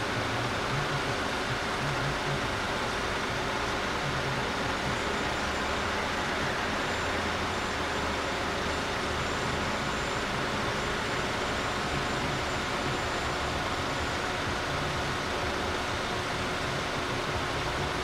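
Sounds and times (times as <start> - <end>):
faint steady tone: 0.0 - 18.0.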